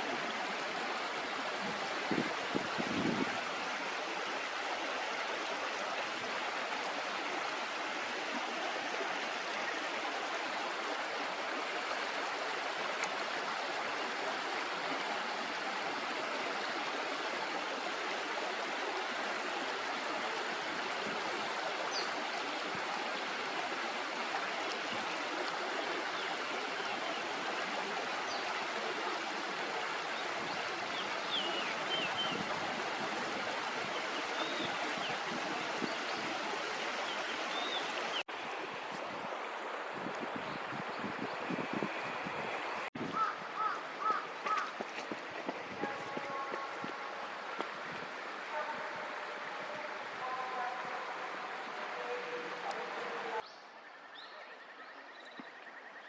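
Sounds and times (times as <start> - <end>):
river water rushing over shallows: 0.0 - 53.5.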